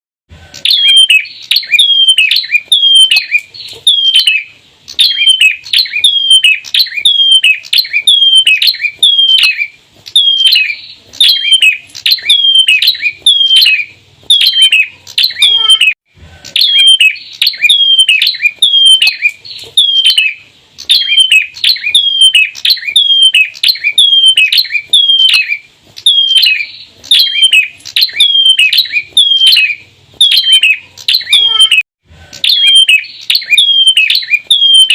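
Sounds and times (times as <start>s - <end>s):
birds calling sharp descending notes: 0.5s - 31.8s, 32.4s - 34.9s.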